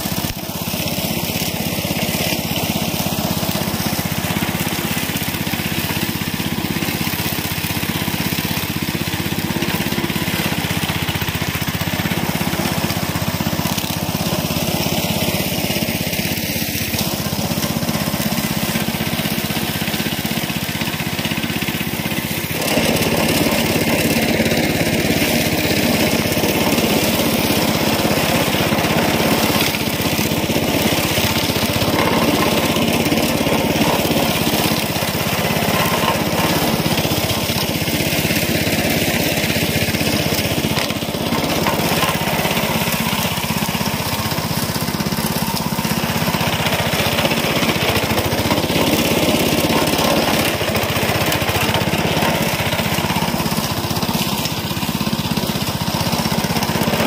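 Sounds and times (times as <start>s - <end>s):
blade cutting weeds and scraping soil: 0.0s - 57.0s
lawn mower engine running: 0.0s - 57.0s.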